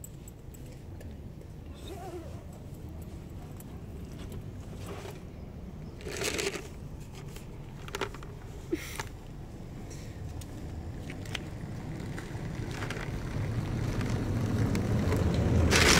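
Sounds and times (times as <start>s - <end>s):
rustling handling noises: 0.0s - 9.4s, 10.2s - 15.9s
low outdoor rumble: 0.0s - 15.9s.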